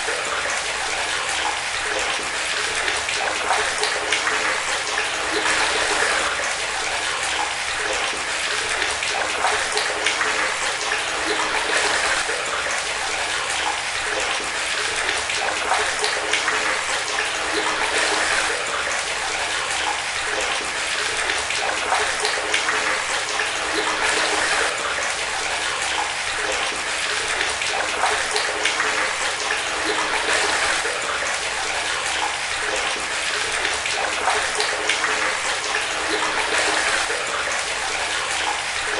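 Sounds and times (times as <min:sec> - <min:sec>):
water pouring into water: 0:00.0 - 0:38.9.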